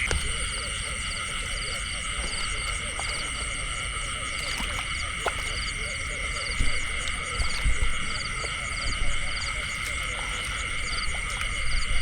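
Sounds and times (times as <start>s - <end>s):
frogs and insects trilling: 0.0s - 12.0s.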